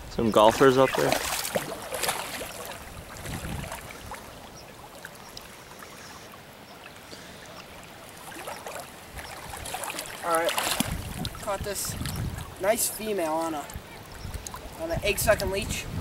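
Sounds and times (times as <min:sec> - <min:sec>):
river water rushing: 0:00.0 - 0:14.9.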